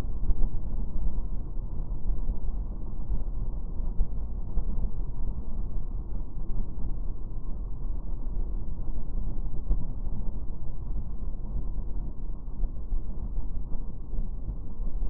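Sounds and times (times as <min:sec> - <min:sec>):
wind rumble: 0:00.0 - 0:15.0.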